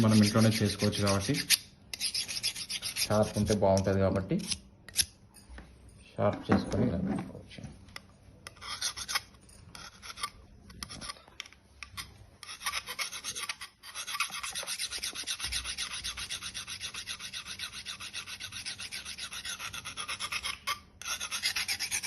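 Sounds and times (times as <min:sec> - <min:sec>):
knife scraped on sharpening rod: 0:00.0 - 0:03.6, 0:04.4 - 0:05.1, 0:08.4 - 0:22.0.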